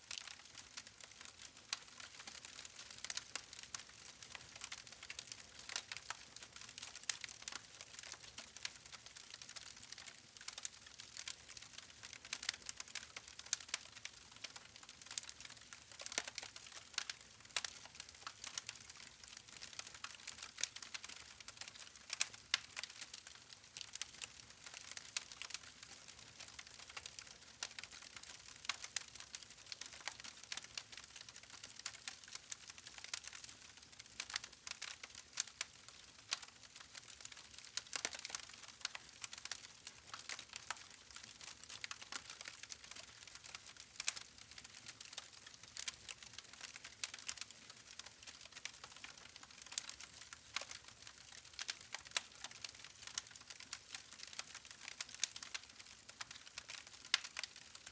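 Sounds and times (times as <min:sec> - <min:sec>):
wood fire crackling: 0:00.1 - 0:57.9.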